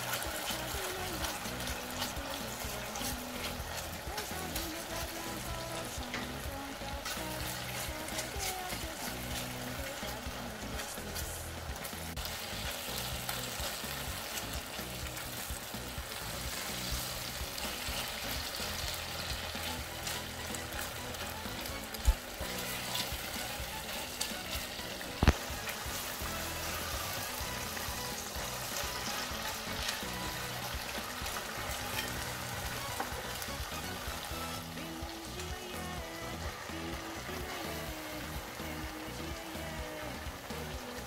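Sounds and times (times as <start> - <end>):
spatula stirring in pan: 0.0 - 41.0
tomatoes sizzling in a pan: 0.0 - 41.0.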